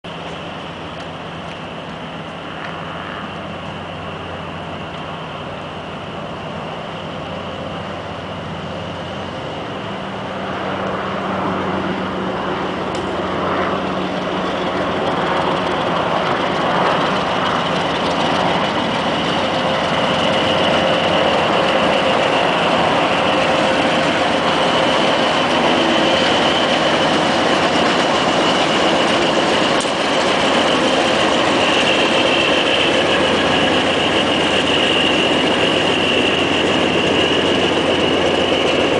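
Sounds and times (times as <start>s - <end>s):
coaches rolling on rails: 0.1s - 38.9s
diesel locomotive engine passing: 0.1s - 38.9s.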